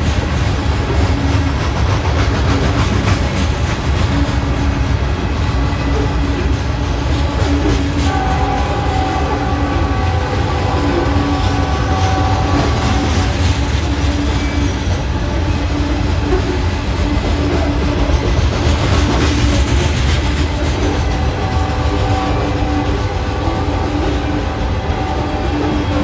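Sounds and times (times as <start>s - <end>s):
freight train rolling past: 0.0s - 26.0s
wheels clacking over rail joints: 0.0s - 26.0s.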